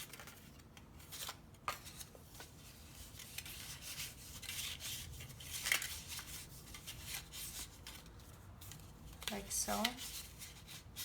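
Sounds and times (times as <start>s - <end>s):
paper rustling and crackling: 0.0s - 11.0s.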